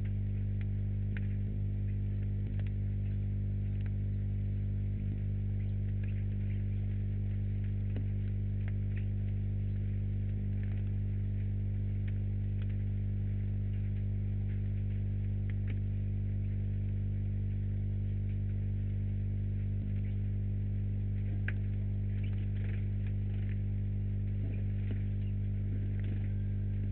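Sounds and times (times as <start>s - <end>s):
electrical mains hum: 0.0s - 26.9s.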